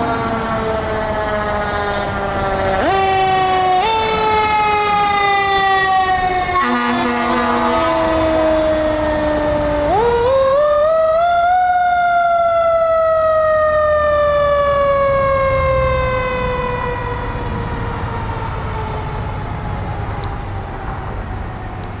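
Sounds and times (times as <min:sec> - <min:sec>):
fire engine siren wailing: 0:00.0 - 0:22.0
truck engine rumble: 0:00.0 - 0:22.0.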